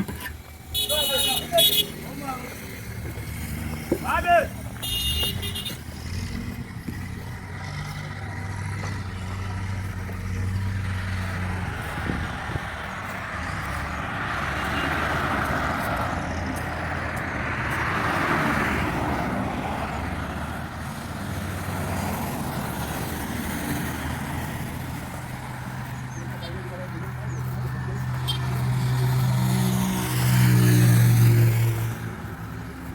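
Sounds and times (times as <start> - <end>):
vehicle engine running: 0.0 - 17.8, 19.6 - 32.9.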